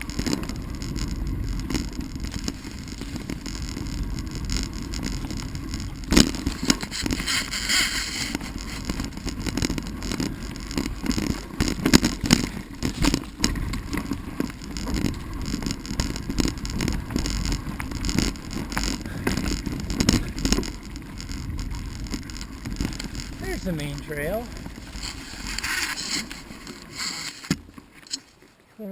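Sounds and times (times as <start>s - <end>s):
wind on microphone: 0.0s - 27.9s
tyres rumbling on dirt: 0.0s - 28.0s
bicycle rattling and knocking: 0.0s - 28.3s.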